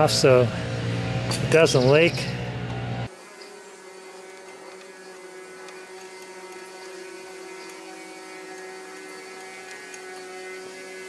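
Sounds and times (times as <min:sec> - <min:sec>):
buzzy electrical hum: 0:00.0 - 0:11.0.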